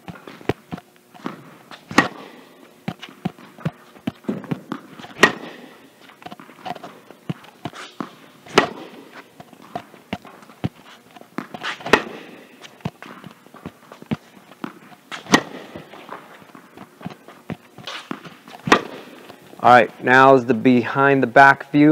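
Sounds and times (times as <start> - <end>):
tennis racket hitting ball: 0.0 - 19.6
ball bouncing: 0.0 - 19.7
footsteps: 0.0 - 20.9.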